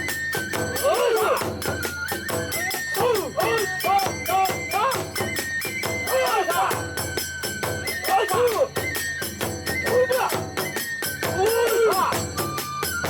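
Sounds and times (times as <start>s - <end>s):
drum beat: 0.0s - 12.6s
hand cymbals: 0.0s - 13.0s.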